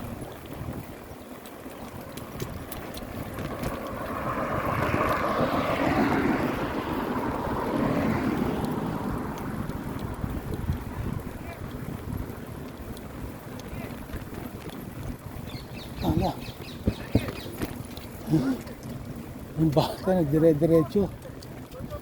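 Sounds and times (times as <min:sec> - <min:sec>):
wind buffeting microphone: 0:00.0 - 0:22.0
road traffic noise: 0:01.1 - 0:22.0.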